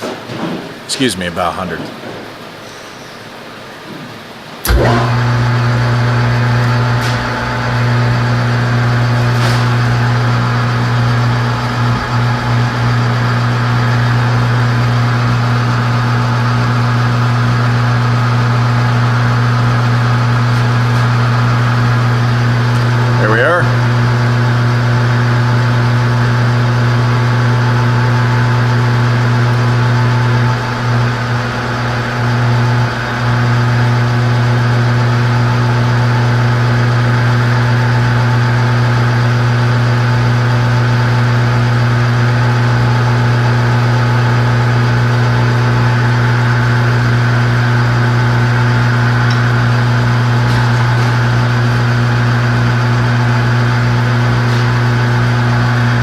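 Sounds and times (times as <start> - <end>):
metal lathe motor hum: 4.3 - 56.0.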